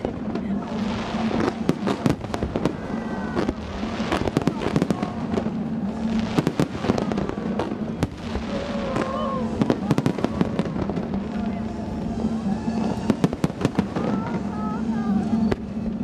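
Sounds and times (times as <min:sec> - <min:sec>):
fireworks bangs and crackles: 0:00.0 - 0:16.0
steady low hum: 0:00.0 - 0:16.0.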